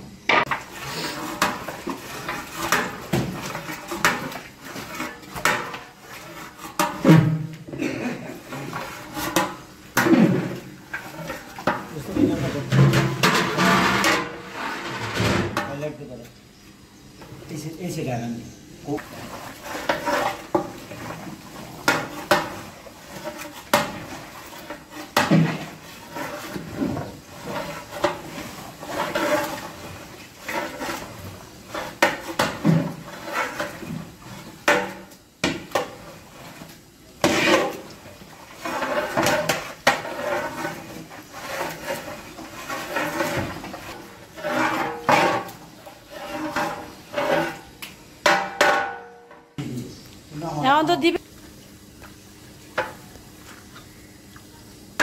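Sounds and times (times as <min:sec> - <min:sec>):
ladle scraping metal pot: 0:00.4 - 0:07.4, 0:08.3 - 0:15.6, 0:18.9 - 0:48.9.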